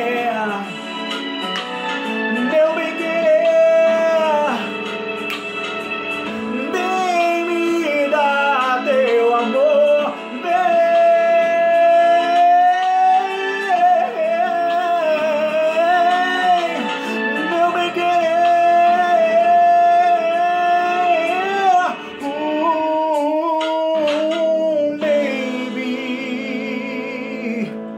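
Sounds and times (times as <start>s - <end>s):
backing music: 0.0s - 27.9s
person singing love song: 0.0s - 27.9s.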